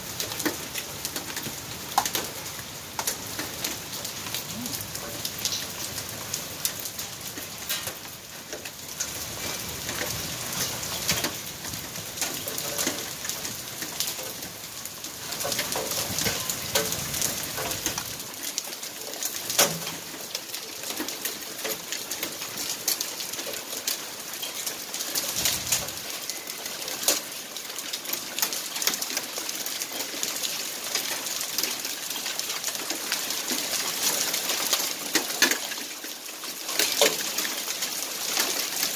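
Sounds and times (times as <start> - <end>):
hail ticking on concrete: 0.0 - 38.9
rain hissing on concrete: 0.0 - 38.9.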